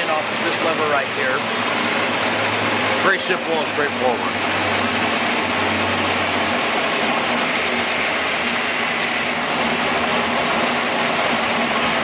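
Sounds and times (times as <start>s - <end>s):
lathe running with machine hiss: 0.0s - 12.0s.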